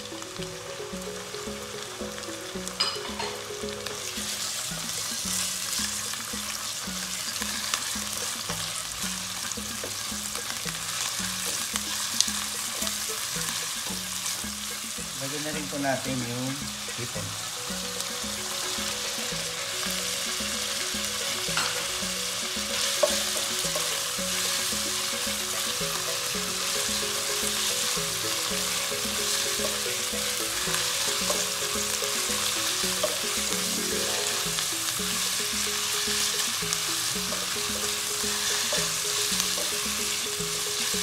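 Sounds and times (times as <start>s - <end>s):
food sizzling in a pot: 0.0s - 41.0s.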